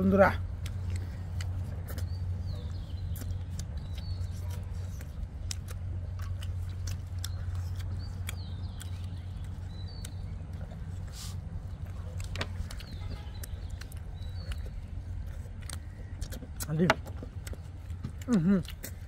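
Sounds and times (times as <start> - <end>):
steady low hum: 0.0 - 19.0
wet chewing: 0.1 - 19.0.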